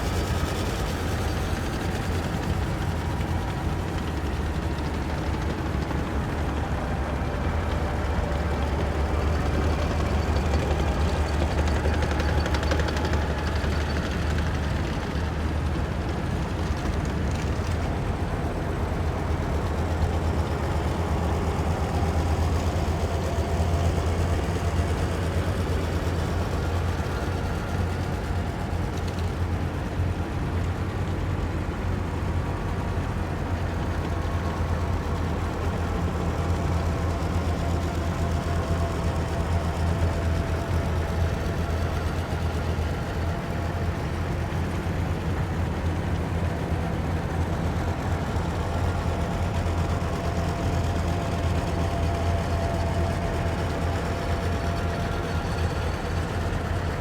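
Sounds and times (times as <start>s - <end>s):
heavy vehicle engines droning: 0.0s - 57.0s.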